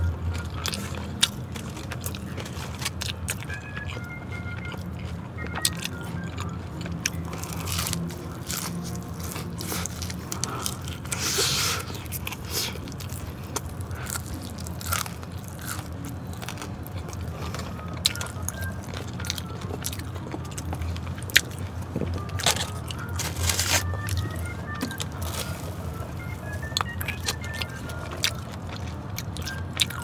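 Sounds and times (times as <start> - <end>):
crunching fried chicken: 0.0 - 30.0
faint tune: 0.0 - 30.0
wet chewing: 0.0 - 30.0.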